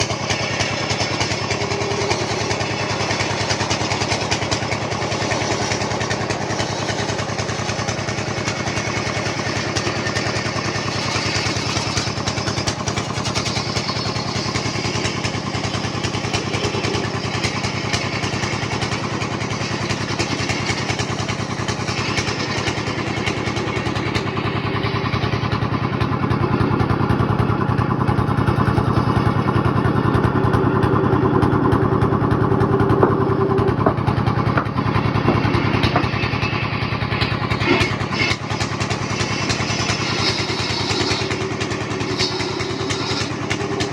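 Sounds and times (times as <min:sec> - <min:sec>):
wood lathe running: 0:00.0 - 0:43.9.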